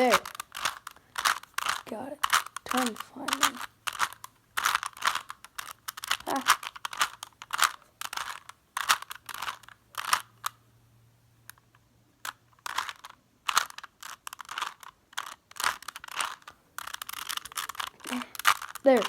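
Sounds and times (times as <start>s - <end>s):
plastic puzzle cube clicking: 0.0s - 10.6s, 11.4s - 19.0s.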